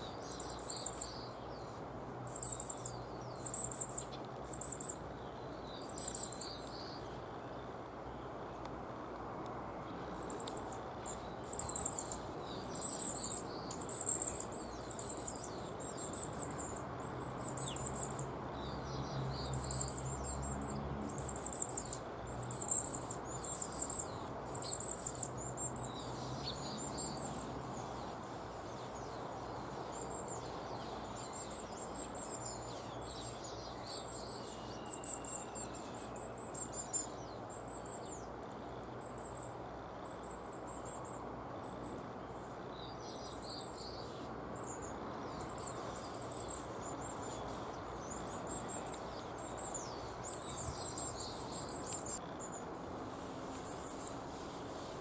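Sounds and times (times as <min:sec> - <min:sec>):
high thin trilled bird calls: 0:00.0 - 0:07.6, 0:10.2 - 0:38.4, 0:39.0 - 0:52.7, 0:53.5 - 0:55.0.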